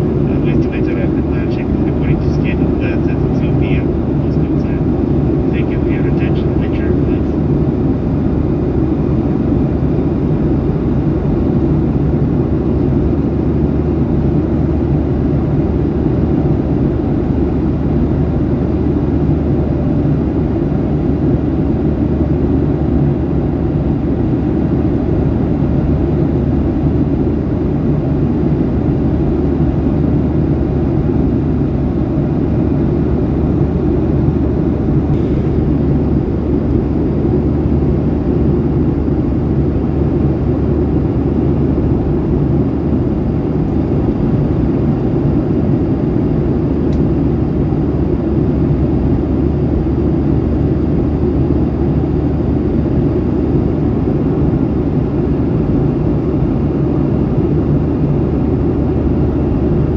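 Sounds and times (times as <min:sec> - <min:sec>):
jet airliner cabin rumble: 0:00.0 - 0:59.9.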